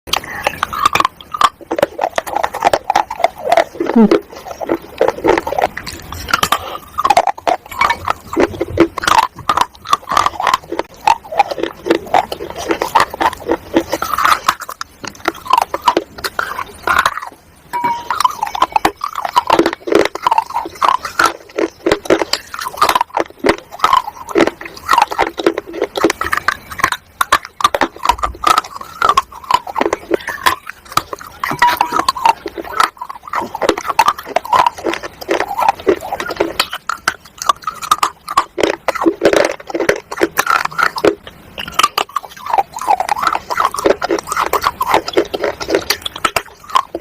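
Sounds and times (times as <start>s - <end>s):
dry crunchy chewing: 0.1s - 47.0s
mouth noises: 0.1s - 47.0s.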